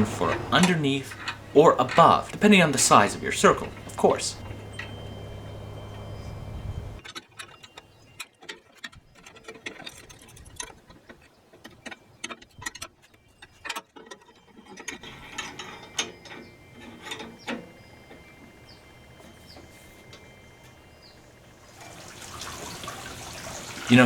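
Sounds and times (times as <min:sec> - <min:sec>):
clicks and metallic rattles: 0:00.0 - 0:21.2.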